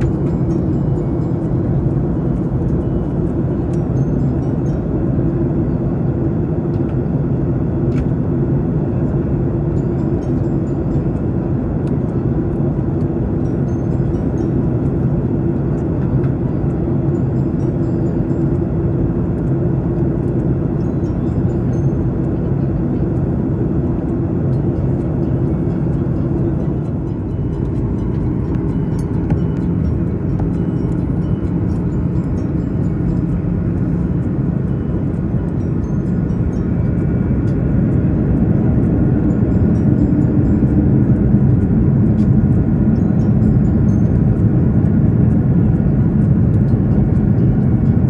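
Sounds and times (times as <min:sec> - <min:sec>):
jet airliner cabin drone: 0:00.0 - 0:48.0.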